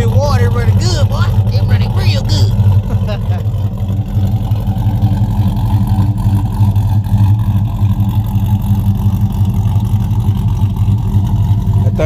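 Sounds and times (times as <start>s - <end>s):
engine idling with loping beat: 0.0s - 12.0s.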